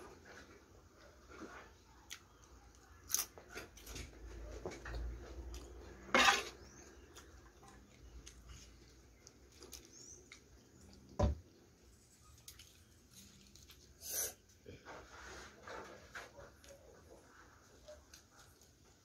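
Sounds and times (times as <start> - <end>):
soft chewing: 0.1 - 19.0.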